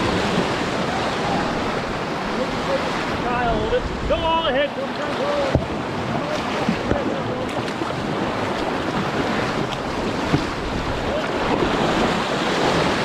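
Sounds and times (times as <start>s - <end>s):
whitewater rapids rushing: 0.0s - 13.0s
wind buffeting microphone: 0.0s - 13.0s.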